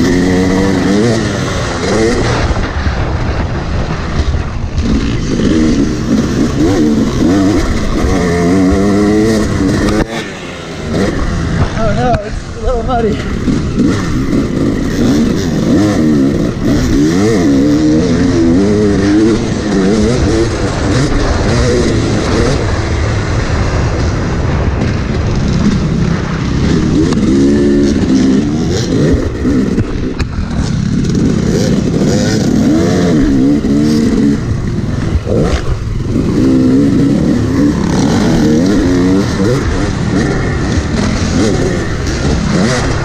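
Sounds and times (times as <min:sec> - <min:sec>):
dirt bike engine revving: 0:00.0 - 0:43.0
wind and rumble noise: 0:00.0 - 0:43.0.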